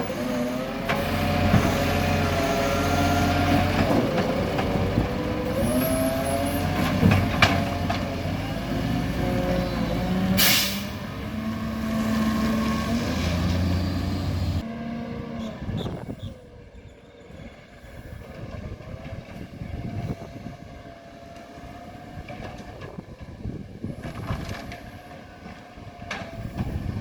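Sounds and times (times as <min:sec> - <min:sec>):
garbage truck engine running: 0:00.0 - 0:27.0.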